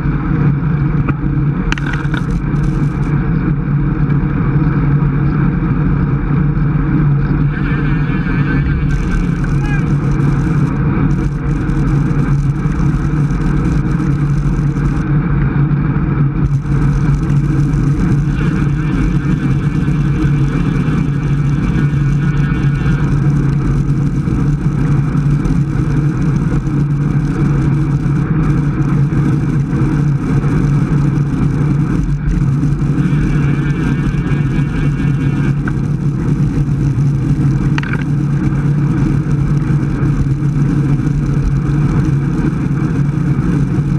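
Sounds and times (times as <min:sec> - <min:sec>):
tyre noise on road: 0:00.0 - 0:43.9
wind rushing over microphone: 0:00.0 - 0:43.9.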